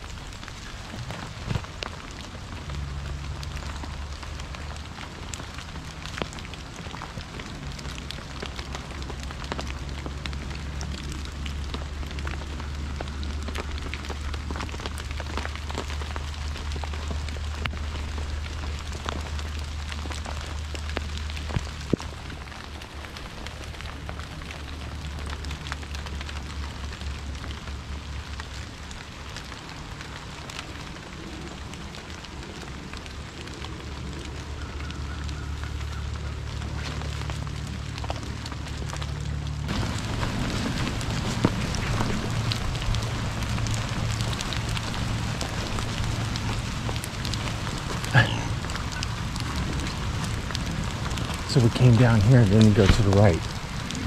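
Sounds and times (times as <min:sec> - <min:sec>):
low rumble: 0:00.0 - 0:54.0
rain pattering on leaves: 0:00.0 - 0:54.0.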